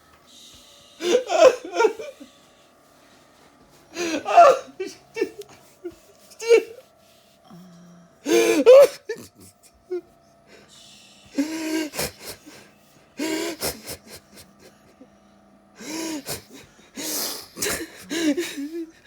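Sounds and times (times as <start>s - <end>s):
harsh strained breaths: 0.0s - 19.0s.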